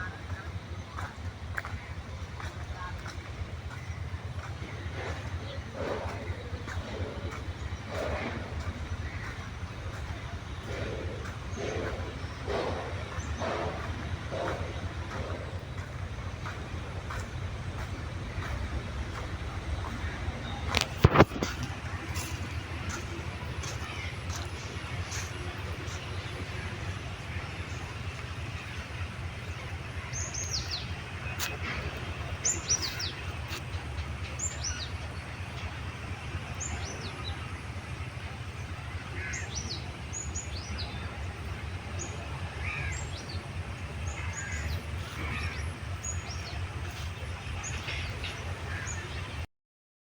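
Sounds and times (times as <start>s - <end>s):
birds chirping: 0.0s - 49.5s
steady low rumble: 0.0s - 49.5s.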